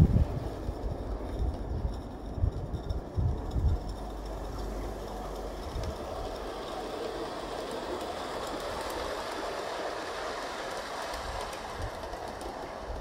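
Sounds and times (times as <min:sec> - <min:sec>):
model train rolling on track: 0:00.0 - 0:13.0
wheels clicking on rails: 0:00.0 - 0:13.0.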